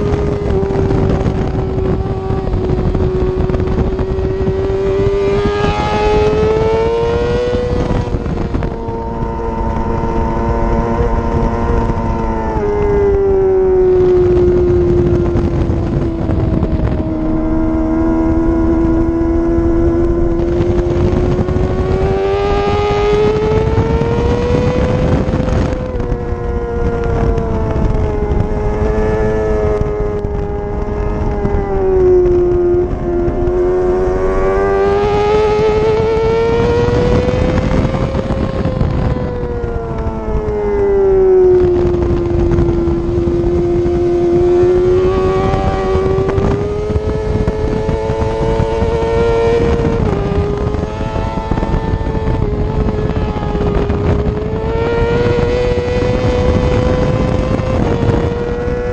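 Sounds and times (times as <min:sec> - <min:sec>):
motorcycle engine at high revs: 0:00.0 - 0:58.9
wind rush on microphone: 0:00.0 - 0:58.9.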